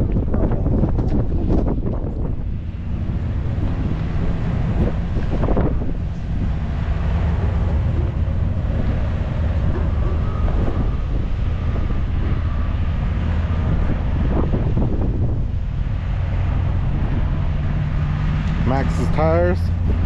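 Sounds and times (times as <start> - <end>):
steady low hum: 0.0 - 20.0
wind buffeting microphone: 0.0 - 20.0.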